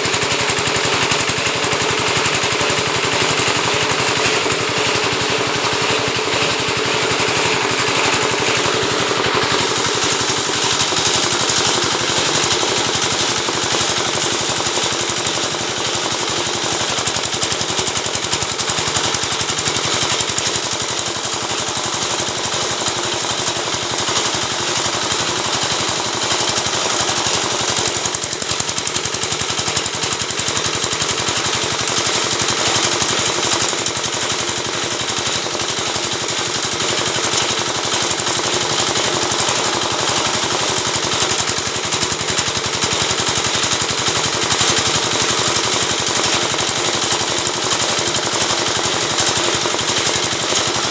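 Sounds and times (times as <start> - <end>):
scraping machine rapid clatter: 0.0 - 50.9.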